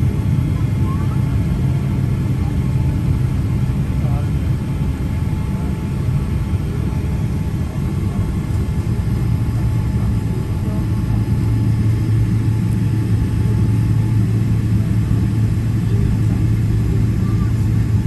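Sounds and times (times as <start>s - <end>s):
jet engines rumbling in cabin: 0.0s - 18.0s.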